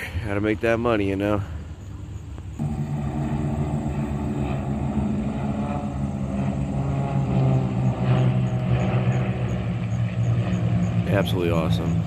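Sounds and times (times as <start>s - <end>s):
propeller airplanes droning overhead: 0.0s - 12.0s.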